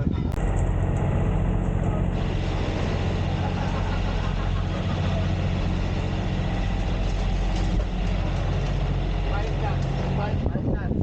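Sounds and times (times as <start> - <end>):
boat engine droning: 0.4 - 11.0.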